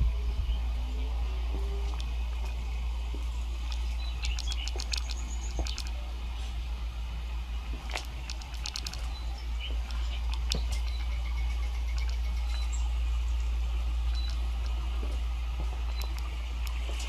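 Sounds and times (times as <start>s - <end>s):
birds chirping through speaker: 0.0s - 6.7s, 7.3s - 17.0s
low rumble: 0.0s - 17.0s
steady hiss: 0.0s - 17.0s.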